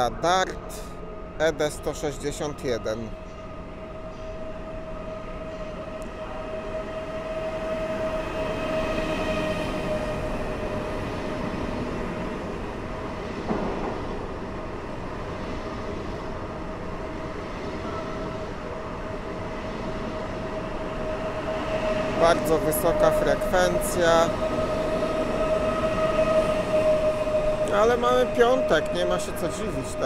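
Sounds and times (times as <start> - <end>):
electric train rumbling past: 0.0 - 30.0.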